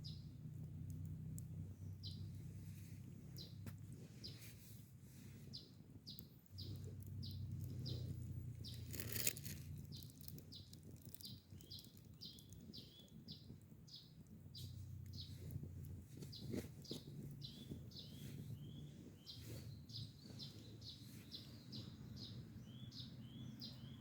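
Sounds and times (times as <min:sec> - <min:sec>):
bird chirping: 0:00.0 - 0:00.4, 0:01.7 - 0:04.7, 0:05.5 - 0:24.0
low steady hum: 0:00.0 - 0:24.0.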